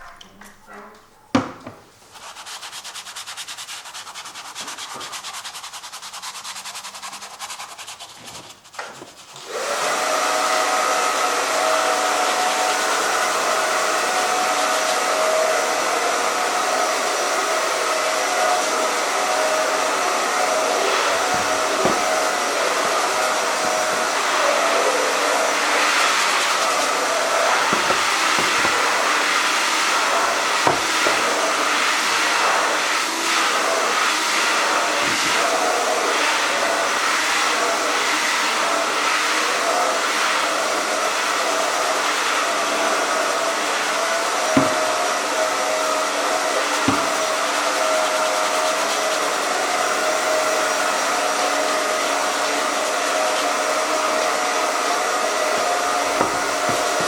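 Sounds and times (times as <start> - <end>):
hair dryer blowing: 8.8 - 57.0.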